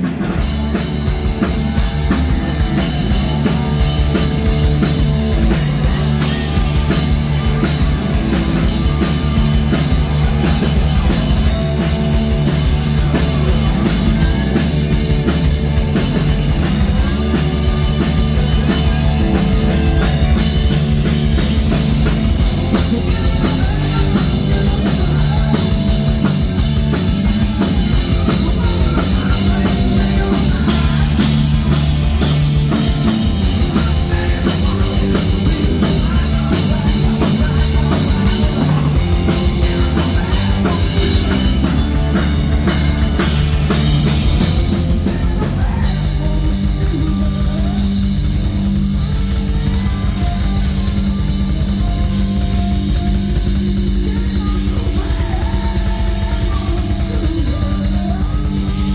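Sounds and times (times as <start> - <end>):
bass line: 0.0 - 58.9
drum kit: 0.0 - 58.9
electric guitar: 0.0 - 58.9.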